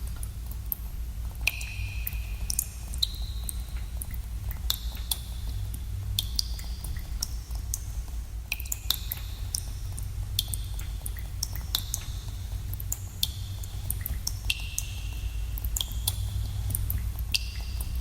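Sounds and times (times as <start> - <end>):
steady low rumble: 0.0 - 18.0
water drops plinking in cave pools: 0.0 - 18.0.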